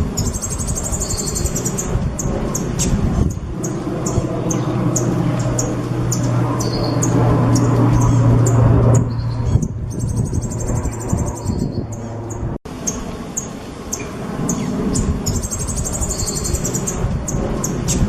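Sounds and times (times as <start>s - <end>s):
bird buzzing trill: 0.0s - 18.0s
low hum: 0.0s - 18.0s.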